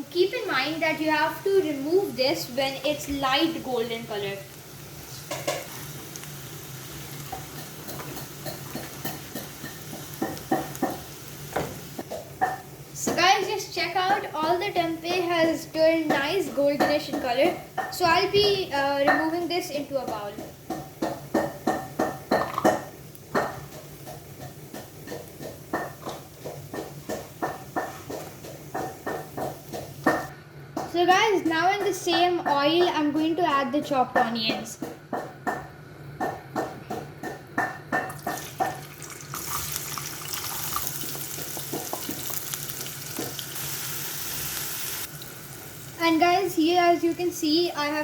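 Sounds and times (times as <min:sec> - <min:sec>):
food sizzling in hot oil: 0:00.0 - 0:30.3, 0:38.0 - 0:48.0.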